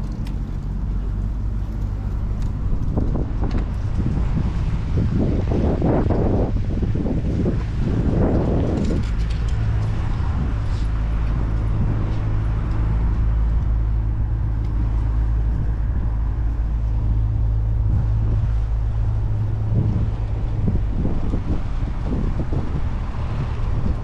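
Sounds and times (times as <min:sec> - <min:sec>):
city traffic: 0:00.0 - 0:24.0
vehicle engine humming: 0:00.0 - 0:24.0.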